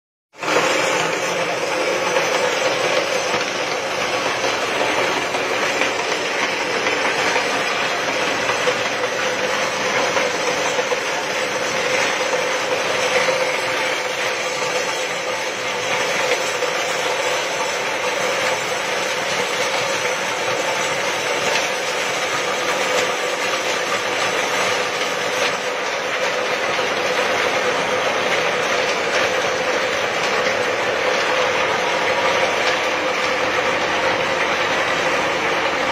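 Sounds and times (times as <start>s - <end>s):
blender machine running: 0.3s - 35.9s.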